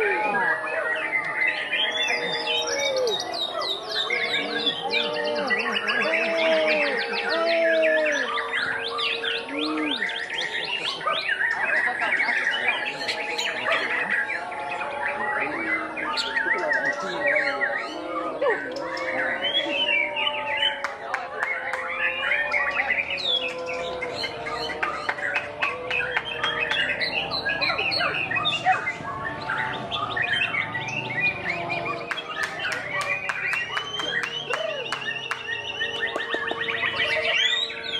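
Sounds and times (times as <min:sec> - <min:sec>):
other songbirds: 0:00.0 - 0:37.9
songbird singing rapid chirps: 0:00.0 - 0:37.9.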